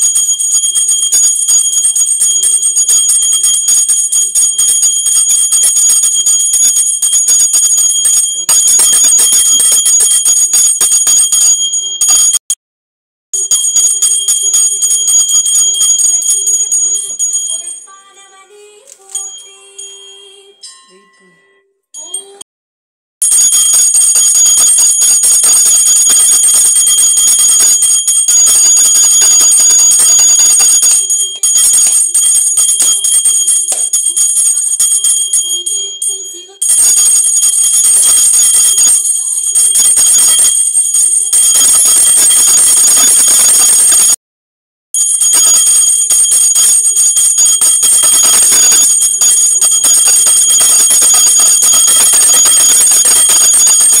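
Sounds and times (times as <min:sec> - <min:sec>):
hand bell ringing rapidly: 0:00.0 - 0:12.4, 0:13.4 - 0:17.9, 0:23.2 - 0:44.2, 0:45.0 - 0:54.0.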